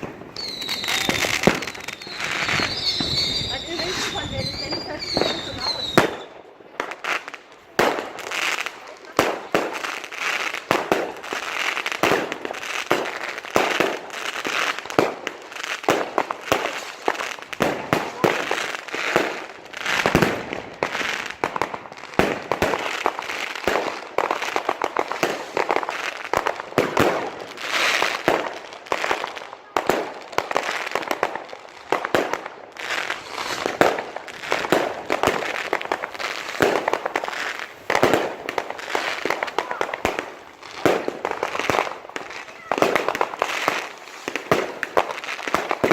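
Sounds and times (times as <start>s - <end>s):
fireworks and firecrackers banging: 0.0s - 45.9s.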